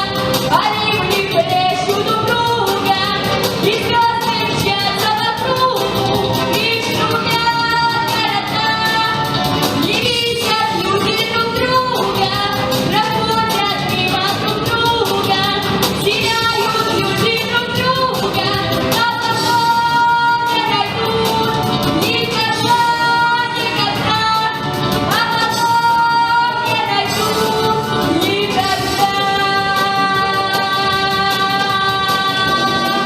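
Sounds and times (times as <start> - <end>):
girl singing: 0.0 - 5.9, 6.6 - 33.0
backing track with steady beat: 0.0 - 33.0.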